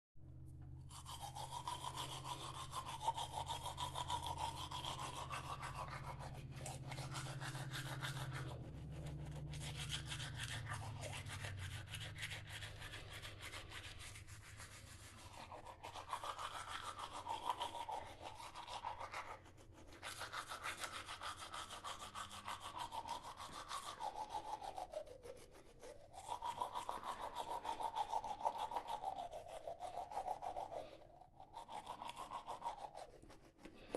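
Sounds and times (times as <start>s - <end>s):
toothbrush scrubbing teeth: 0.7s - 33.9s.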